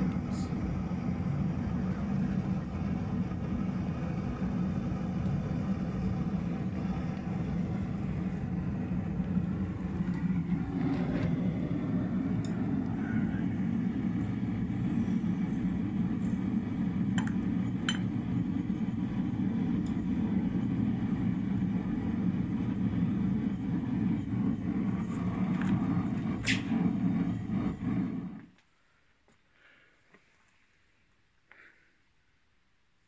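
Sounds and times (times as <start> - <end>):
gas forge burning: 0.0 - 30.2.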